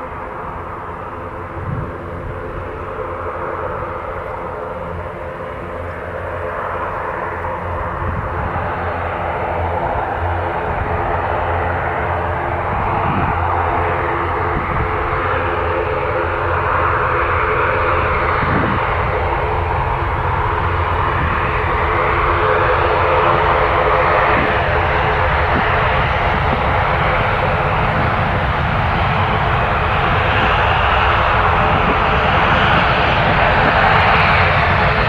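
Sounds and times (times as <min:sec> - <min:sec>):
jet engines running: 0:00.0 - 0:35.0.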